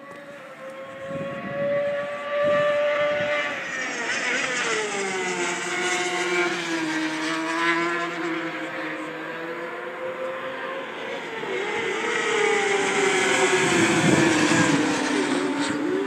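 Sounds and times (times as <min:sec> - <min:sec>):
motorcycle engine revving high: 0:00.7 - 0:16.0.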